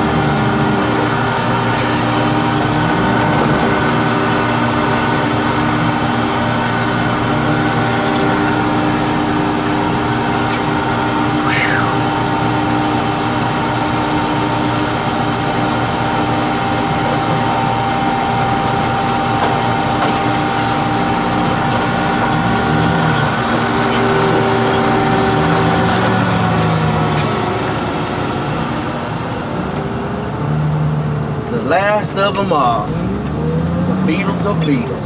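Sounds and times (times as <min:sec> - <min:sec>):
heavy machinery engine humming: 0:00.0 - 0:35.0.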